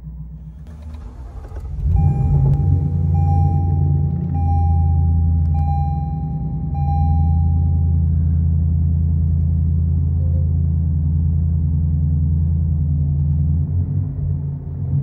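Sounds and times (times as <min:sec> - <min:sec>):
car exhaust rumbling at idle: 0:00.0 - 0:15.0.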